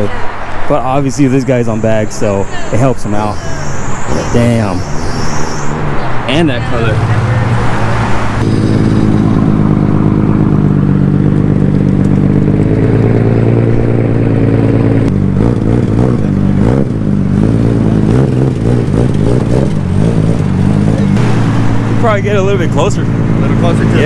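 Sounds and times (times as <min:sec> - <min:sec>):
car engine pulling away: 0:00.0 - 0:24.0.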